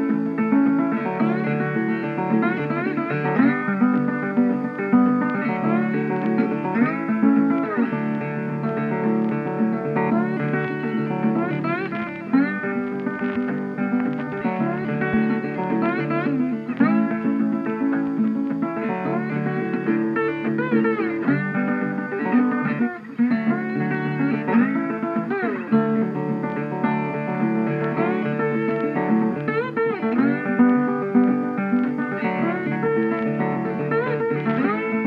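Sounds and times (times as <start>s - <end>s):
guitar music with bent notes: 0.0s - 35.0s.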